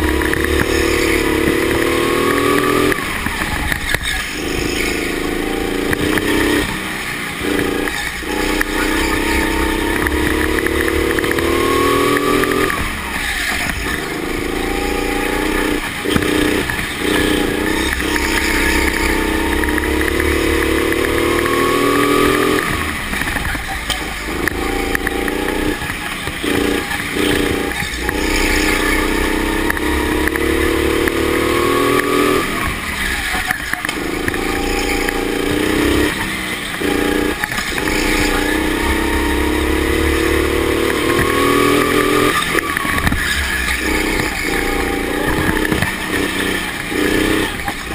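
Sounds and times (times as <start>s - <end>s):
electric go-kart drive whining: 0.0s - 47.9s.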